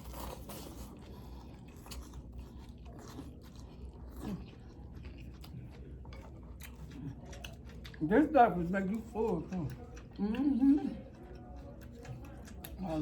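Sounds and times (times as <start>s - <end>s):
chewing and mouth noises: 0.0s - 13.0s.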